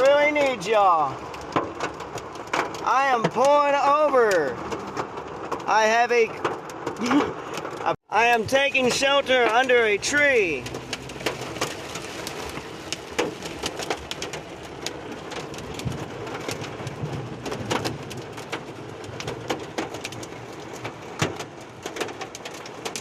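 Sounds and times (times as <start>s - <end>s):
hailstones knocking on roof: 0.0s - 23.0s
heavy rain on a truck: 0.0s - 23.0s.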